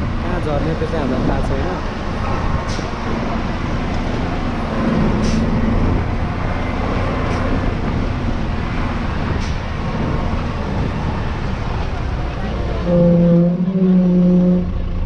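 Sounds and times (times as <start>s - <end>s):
truck engine driving on dirt road: 0.0s - 15.0s.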